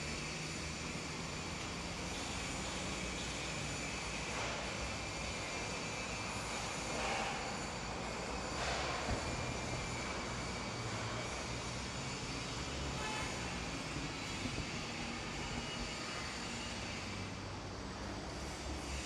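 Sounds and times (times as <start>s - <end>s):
steady mechanical drone: 0.0s - 19.0s.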